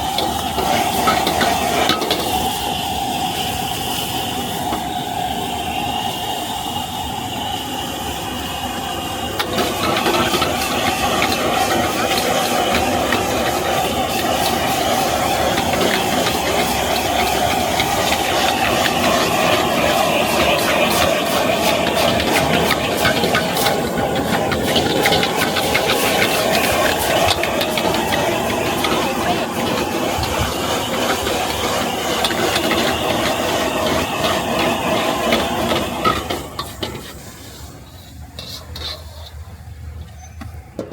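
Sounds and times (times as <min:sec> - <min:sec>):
spatula scraping a wok: 0:00.0 - 0:02.6, 0:09.4 - 0:40.4
food sizzling in a wok: 0:00.0 - 0:40.0.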